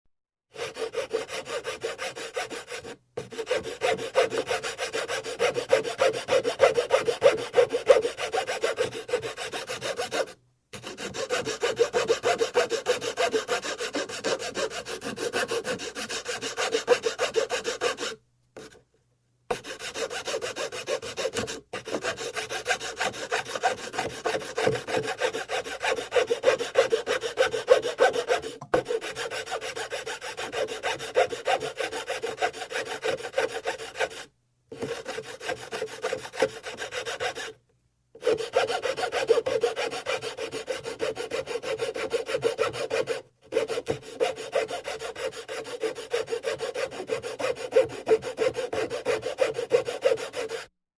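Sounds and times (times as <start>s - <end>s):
rasp scraping on wood: 0.5s - 18.8s, 19.5s - 37.6s, 38.2s - 50.7s.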